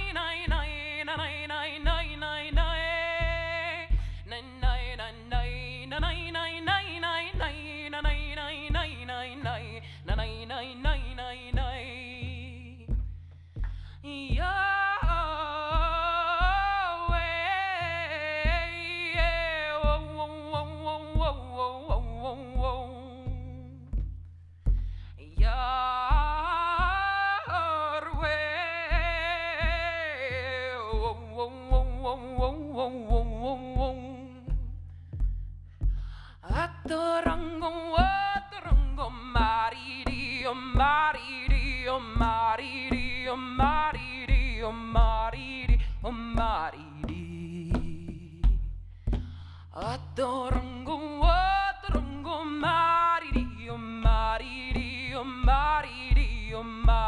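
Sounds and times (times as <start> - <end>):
solo voice singing without words: 0.0 - 13.1, 14.0 - 24.2, 25.1 - 35.0, 36.2 - 57.0
steady low hum: 0.0 - 57.0.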